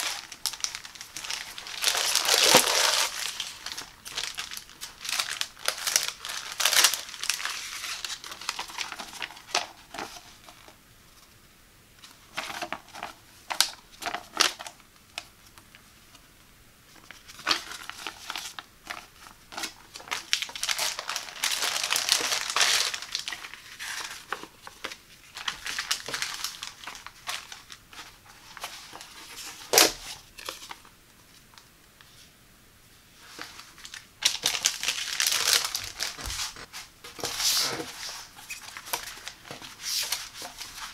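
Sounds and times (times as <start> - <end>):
plastic and paper crinkling: 0.0 - 10.8, 12.0 - 16.2, 16.9 - 32.1, 33.2 - 40.9.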